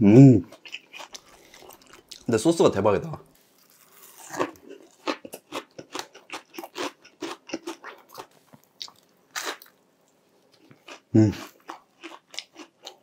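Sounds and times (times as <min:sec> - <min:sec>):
crunchy chewing of fried food: 0:00.4 - 0:02.3, 0:03.4 - 0:13.0.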